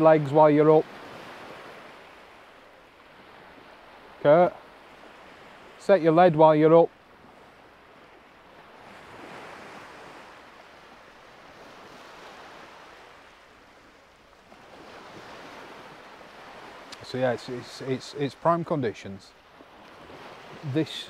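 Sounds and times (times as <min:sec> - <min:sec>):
small waves washing onto sand: 0:00.0 - 0:21.0.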